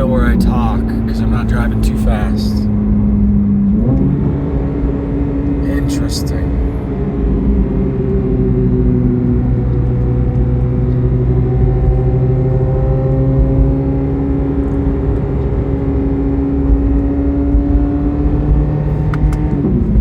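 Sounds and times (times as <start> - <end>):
car engine running: 0.0 - 20.0
road rumble: 0.0 - 20.0.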